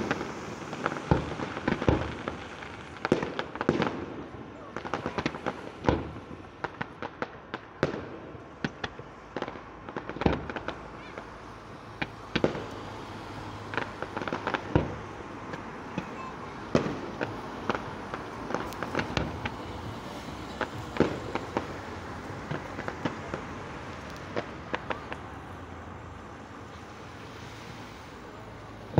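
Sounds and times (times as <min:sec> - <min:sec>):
fireworks bangs and crackles: 0:00.0 - 0:28.9.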